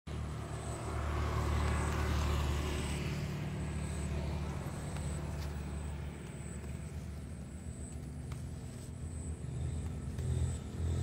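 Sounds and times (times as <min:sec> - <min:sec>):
low engine hum: 0:00.1 - 0:11.0.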